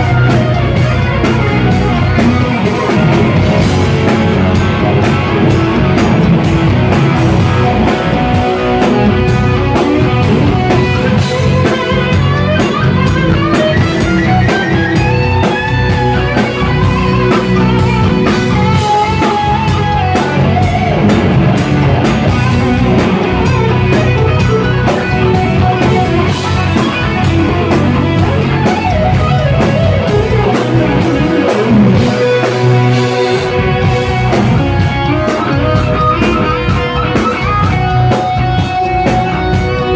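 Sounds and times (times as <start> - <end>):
electric guitar lead melody: 0.0 - 39.9
rock band playing: 0.0 - 39.9.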